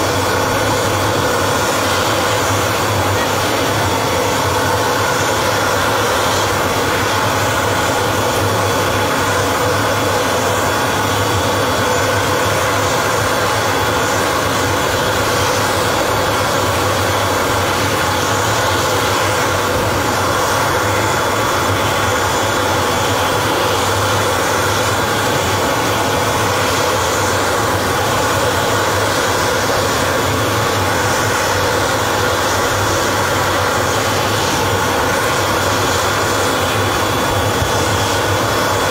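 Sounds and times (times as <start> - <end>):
high turbine whine: 0.0 - 38.9
jet turbine rush: 0.0 - 38.9.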